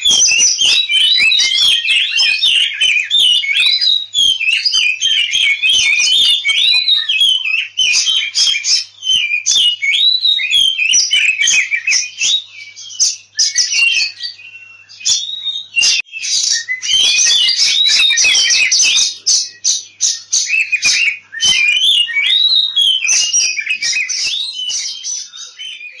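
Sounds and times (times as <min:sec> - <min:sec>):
songbird singing whistled notes: 0:00.0 - 0:26.0.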